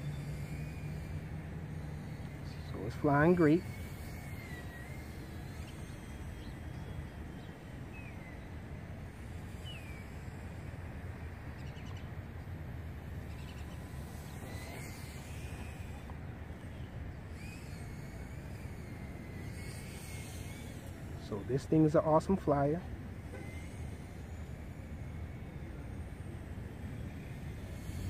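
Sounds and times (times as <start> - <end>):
distant drone motors whining: 0.0 - 28.0
low outdoor rumble: 0.0 - 28.0.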